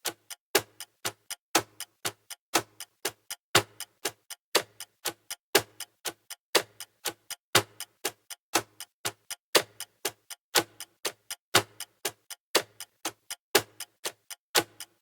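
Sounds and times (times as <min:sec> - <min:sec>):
timer ticking: 0:00.0 - 0:15.0.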